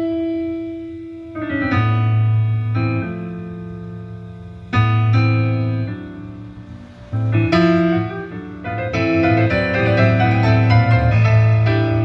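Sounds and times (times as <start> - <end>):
piano music through loudspeaker: 0.0 - 12.0.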